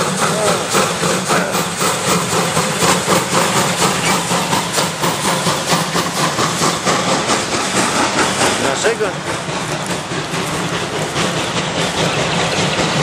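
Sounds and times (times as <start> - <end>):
steam hissing: 0.0 - 13.0
steam locomotive exhaust chuffing: 0.0 - 13.0
train wheels clacking on rail joints: 0.0 - 13.0.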